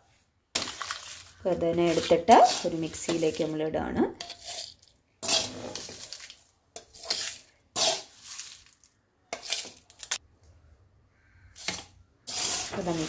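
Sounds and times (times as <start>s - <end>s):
metal spoon scraping a pan: 0.5s - 10.2s, 11.5s - 13.0s.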